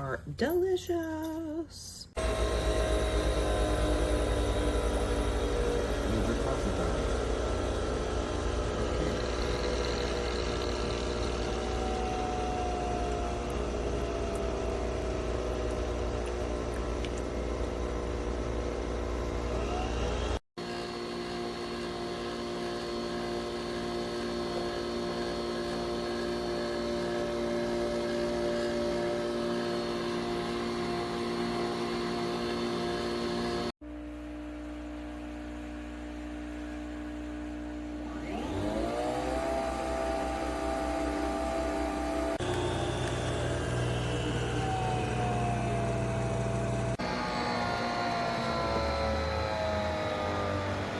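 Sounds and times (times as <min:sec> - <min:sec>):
coffee machine motor whirring: 0:02.2 - 0:33.7, 0:34.6 - 0:50.9.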